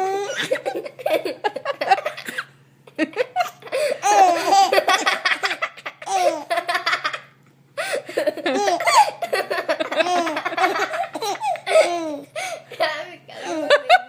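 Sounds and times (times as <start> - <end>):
baby laughing hard: 0.0 - 2.4, 3.2 - 12.6.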